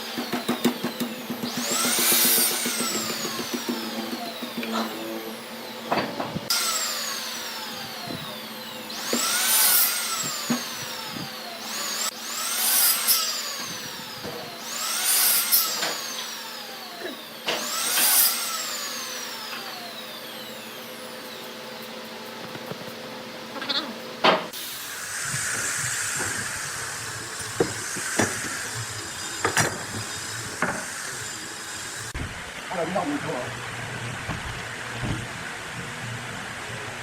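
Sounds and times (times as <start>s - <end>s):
power tool motor spinning up: 0.0s - 32.2s.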